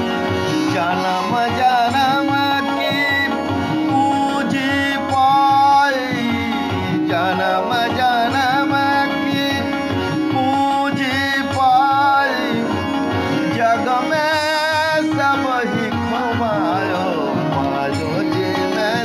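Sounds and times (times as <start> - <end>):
ornamented sliding melody: 0.0 - 19.0.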